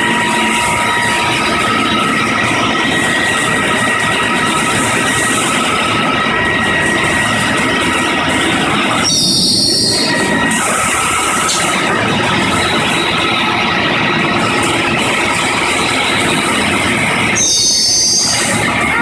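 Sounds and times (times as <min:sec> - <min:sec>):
high metallic squeal: 0:00.0 - 0:19.0
slicing machine running: 0:00.0 - 0:19.0.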